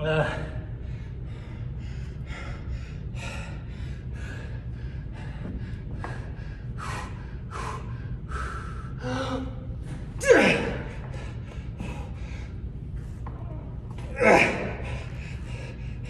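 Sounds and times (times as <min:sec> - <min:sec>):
man panting: 0:00.2 - 0:13.3, 0:14.0 - 0:16.0.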